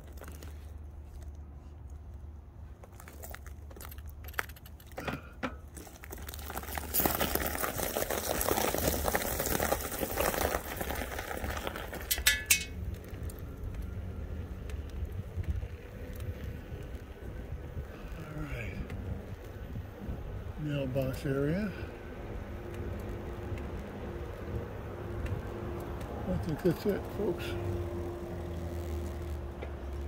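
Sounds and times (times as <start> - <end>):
e-bike riding rumble: 0.0 - 30.0.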